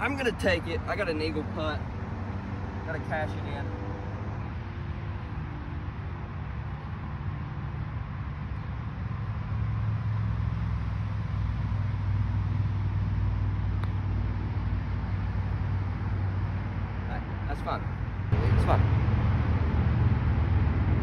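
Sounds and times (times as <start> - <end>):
low rumble of outdoor background: 0.0 - 21.0.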